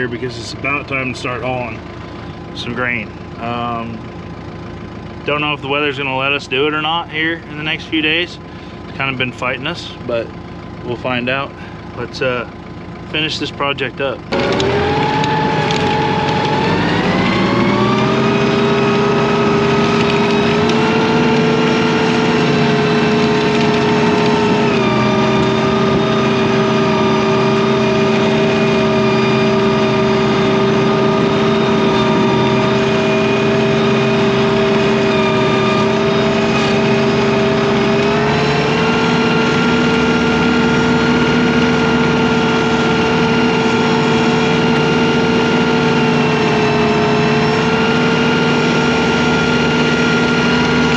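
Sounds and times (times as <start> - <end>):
snow machine engine running: 0.0 - 50.9.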